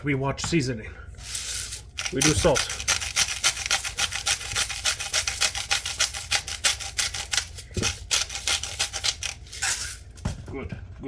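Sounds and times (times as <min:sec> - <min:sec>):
salt grinder rasping: 0:01.2 - 0:10.1.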